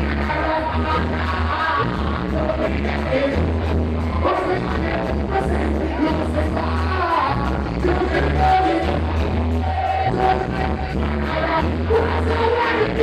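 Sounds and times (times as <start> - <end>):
heavy bass line: 0.0 - 13.0
live reggae band playing: 0.0 - 13.0
person singing: 0.0 - 13.0.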